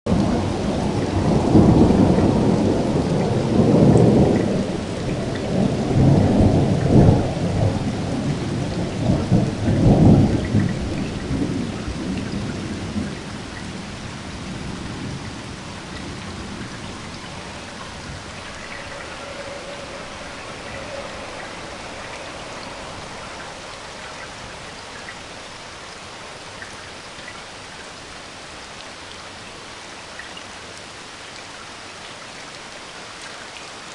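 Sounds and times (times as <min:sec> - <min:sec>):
thunder rumbling: 0:00.1 - 0:28.1
steady rain: 0:00.1 - 0:33.9.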